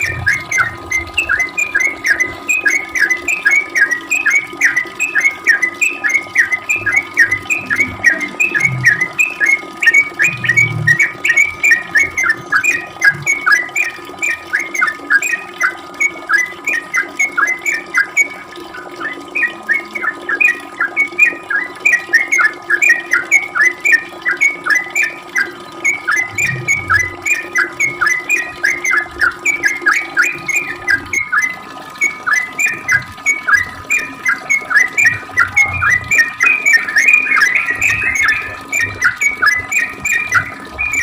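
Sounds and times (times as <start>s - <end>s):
bird chirping song: 0.0s - 41.0s.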